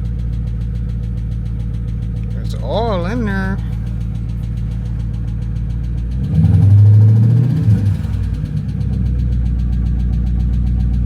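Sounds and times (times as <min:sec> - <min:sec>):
car engine idling with rhythmic tick: 0:00.0 - 0:11.0.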